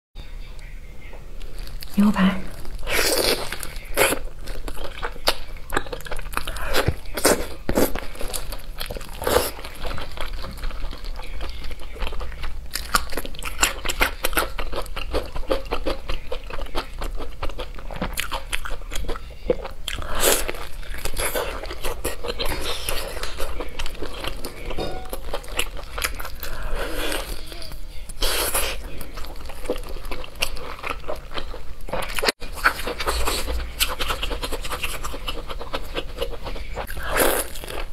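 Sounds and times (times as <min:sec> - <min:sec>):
person chewing meat: 0:02.5 - 0:37.9.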